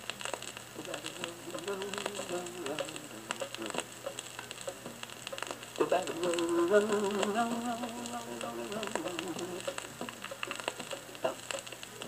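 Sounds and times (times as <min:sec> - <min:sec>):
instrumental music from a record: 0:00.0 - 0:12.0
vinyl surface crackle and pops: 0:00.0 - 0:12.0.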